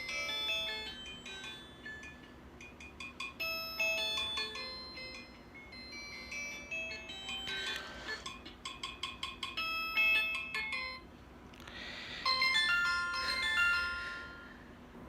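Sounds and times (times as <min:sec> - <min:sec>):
mobile phone alarm melody: 0:00.0 - 0:08.4, 0:09.2 - 0:11.1, 0:12.1 - 0:14.6.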